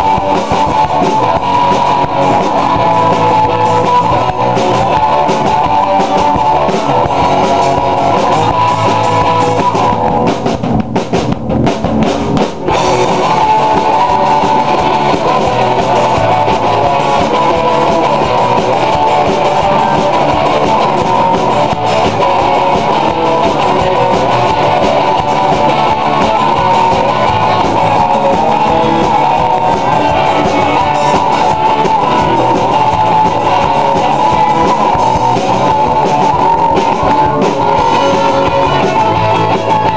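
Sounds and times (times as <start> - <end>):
instrumental rock music: 0.0 - 39.9.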